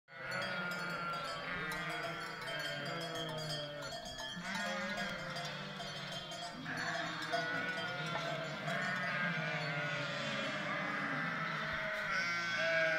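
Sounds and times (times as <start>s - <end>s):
sheep and lambs bleating: 0.1s - 12.9s.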